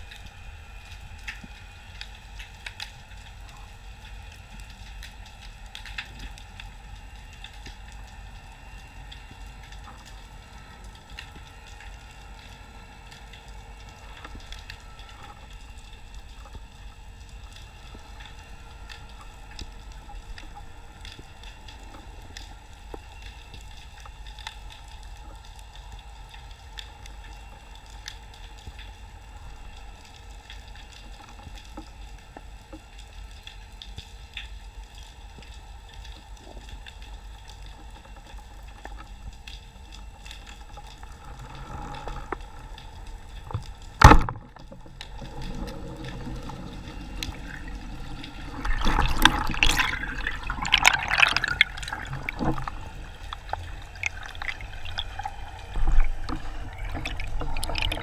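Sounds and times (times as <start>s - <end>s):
low underwater rumble: 0.0s - 27.6s, 36.7s - 58.0s
scattered underwater clicks: 0.0s - 58.0s.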